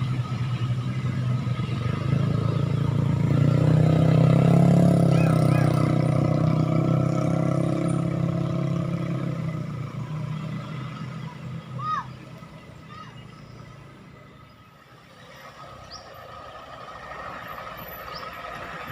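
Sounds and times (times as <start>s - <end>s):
vehicle engine rumbling past: 0.0s - 18.9s.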